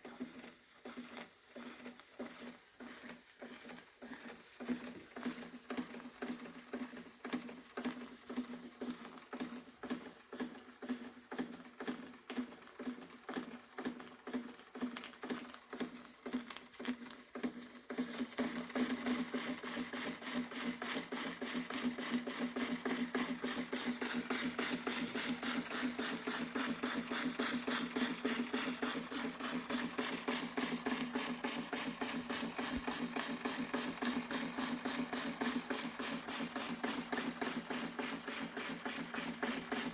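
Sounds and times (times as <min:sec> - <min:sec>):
toy steam engine beating rhythmically: 0:00.0 - 0:15.0, 0:17.2 - 0:39.9.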